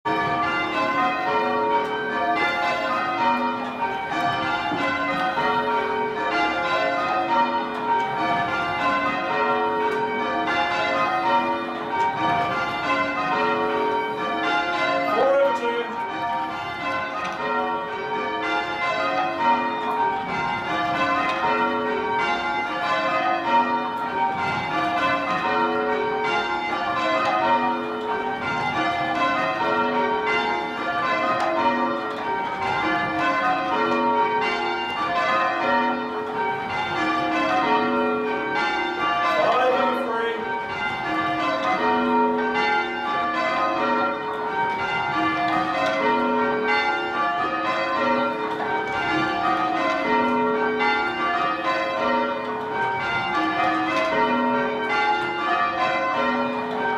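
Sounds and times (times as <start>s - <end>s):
church bells change ringing: 0.0s - 56.9s.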